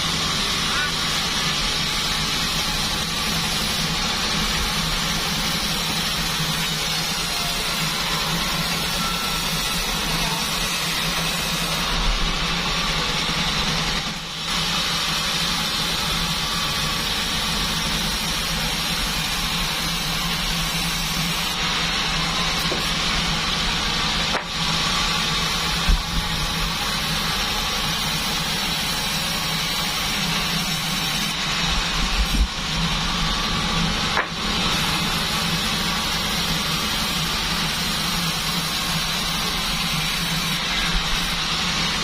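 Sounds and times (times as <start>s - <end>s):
bandsaw motor droning: 0.0s - 42.0s.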